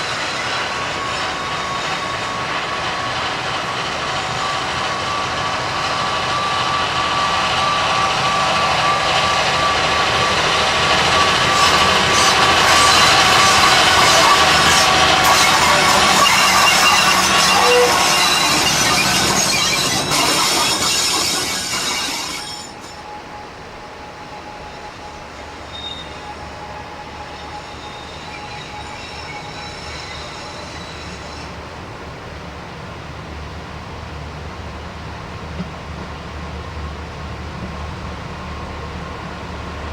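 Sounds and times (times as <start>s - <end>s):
machinery with high whine: 0.0s - 32.6s
train wheels squealing on rails: 0.0s - 33.6s
train running on track: 0.0s - 39.9s.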